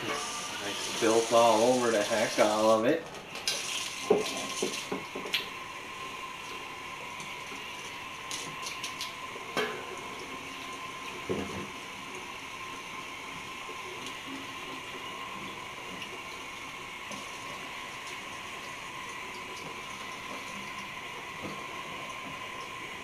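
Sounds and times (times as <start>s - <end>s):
faucet running water: 0.0s - 23.0s.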